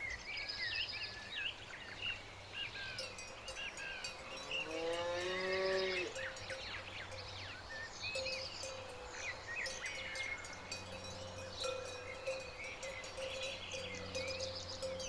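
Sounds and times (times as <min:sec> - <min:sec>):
small birds chirping and whistling: 0:00.0 - 0:15.0.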